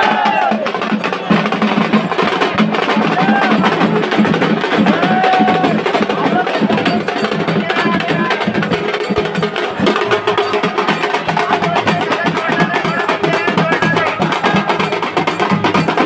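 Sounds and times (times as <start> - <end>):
fast drumming: 0.0 - 16.0
voices calling out: 0.0 - 16.0.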